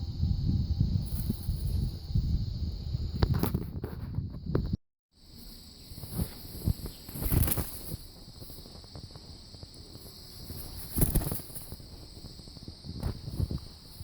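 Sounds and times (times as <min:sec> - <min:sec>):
insects trilling: 0:00.0 - 0:14.0
rustling noise: 0:01.0 - 0:02.2, 0:03.1 - 0:14.0.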